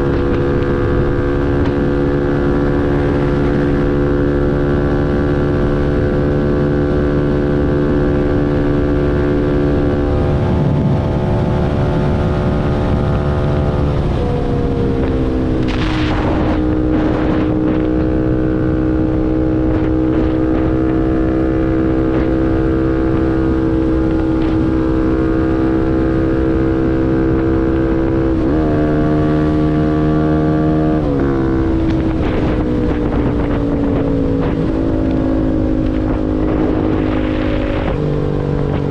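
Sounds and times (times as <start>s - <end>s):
motorcycle engine riding: 0.0s - 38.9s
wind on microphone: 0.0s - 38.9s.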